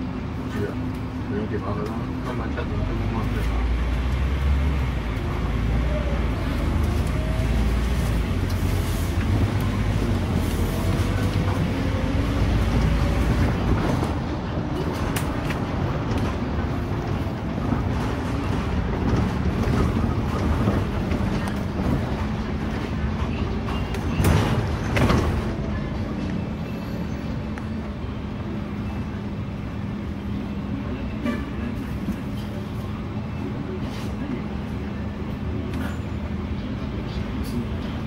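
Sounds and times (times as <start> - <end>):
bus engine and road rumble: 0.0 - 38.0.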